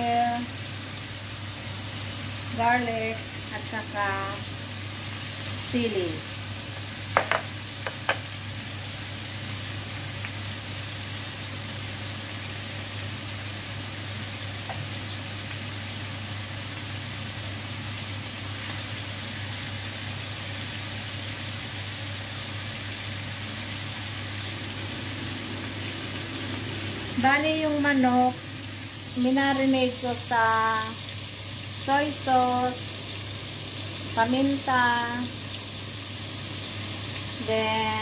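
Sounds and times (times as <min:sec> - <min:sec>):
chicken sizzling in a wok: 0:00.0 - 0:38.0.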